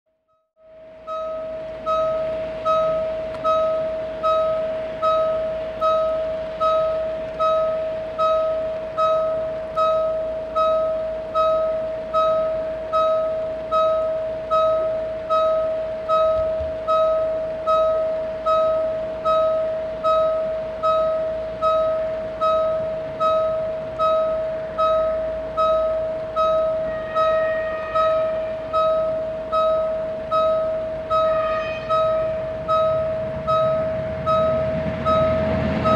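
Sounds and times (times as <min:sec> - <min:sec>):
level-crossing warning bell ringing: 0:00.6 - 0:35.9.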